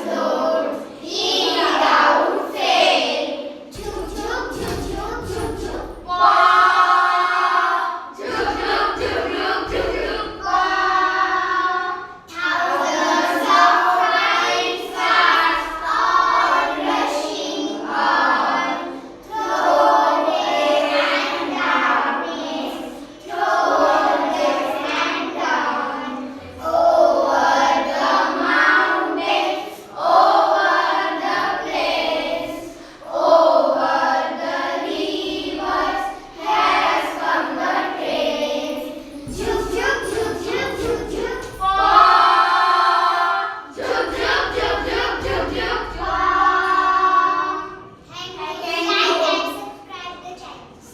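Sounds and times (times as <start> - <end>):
children singing in unison: 0.0 - 49.1.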